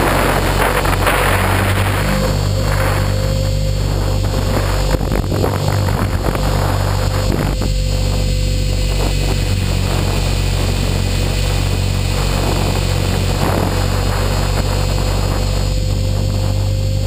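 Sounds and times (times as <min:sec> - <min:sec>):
rc helicopter rotor hum: 0:00.0 - 0:17.0.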